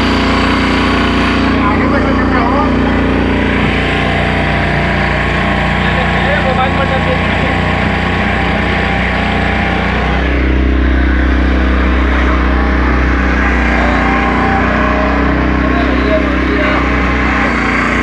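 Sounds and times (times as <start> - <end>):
motorboat engine hum: 0.0 - 18.0
water rushing along hull: 0.0 - 18.0.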